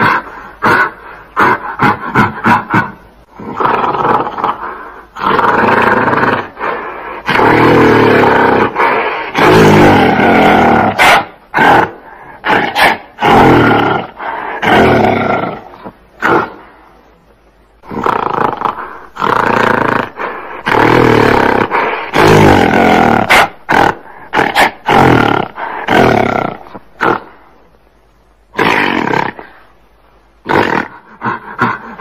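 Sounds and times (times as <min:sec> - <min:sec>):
gorilla roaring: 0:00.0 - 0:16.6, 0:17.8 - 0:27.3, 0:28.5 - 0:29.6, 0:30.4 - 0:32.0.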